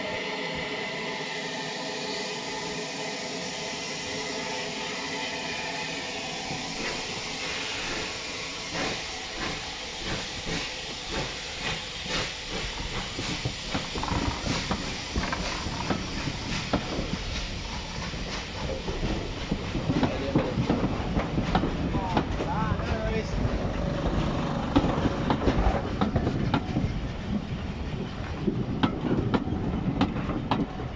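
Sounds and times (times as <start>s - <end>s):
steam hissing: 0.0s - 30.9s
train coaches rolling past: 0.0s - 30.9s.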